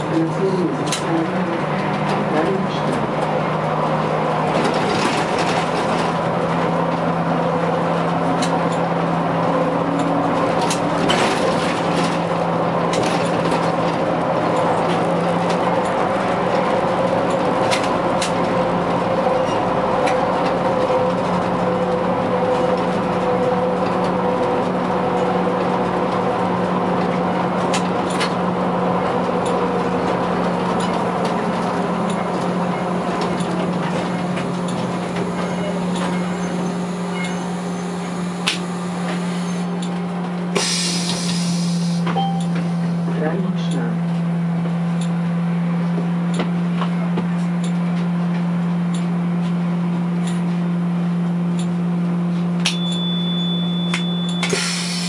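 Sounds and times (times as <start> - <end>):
tyre and road noise: 0.0 - 53.5.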